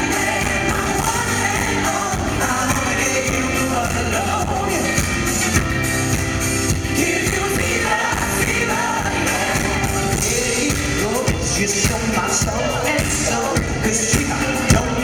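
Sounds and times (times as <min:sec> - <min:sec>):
man singing: 0:00.0 - 0:05.6, 0:06.7 - 0:15.0
live pop band playing: 0:00.0 - 0:15.0.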